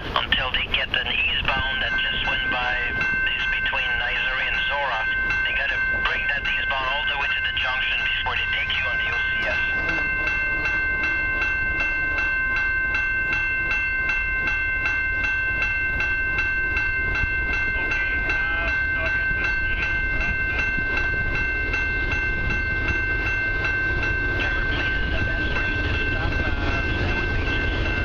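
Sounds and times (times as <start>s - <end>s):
level crossing bell ringing: 0.4s - 28.0s.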